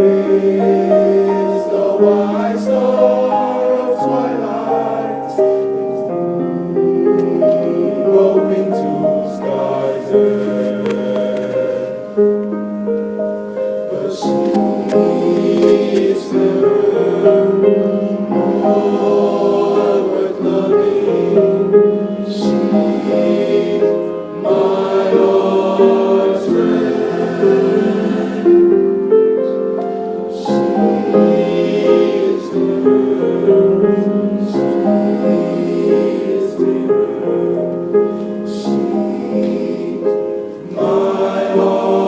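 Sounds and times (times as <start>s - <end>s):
male choir singing: 0.0s - 12.4s, 13.8s - 29.6s, 30.3s - 42.0s.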